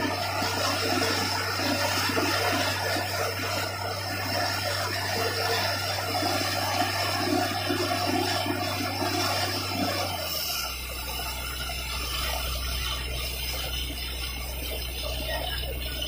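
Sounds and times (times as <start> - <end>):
drilling rig engine drone: 0.0 - 16.0.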